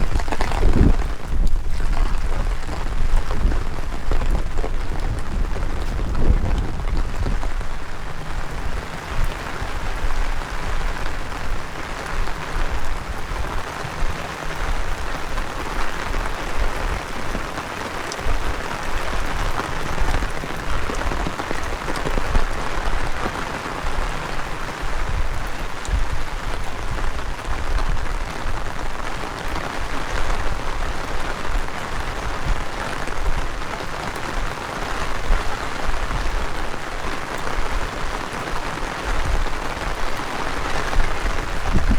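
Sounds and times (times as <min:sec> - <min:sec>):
heavy rain hissing: 0:00.0 - 0:41.9
wind gusting against microphone: 0:00.0 - 0:41.9.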